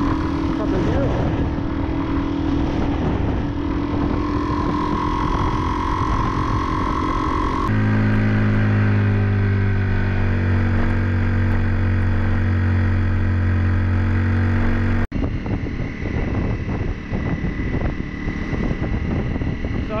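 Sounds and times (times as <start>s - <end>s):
wind buffeting microphone: 0.0s - 12.6s, 15.1s - 20.0s
motorcycle engine cruising: 0.0s - 20.0s.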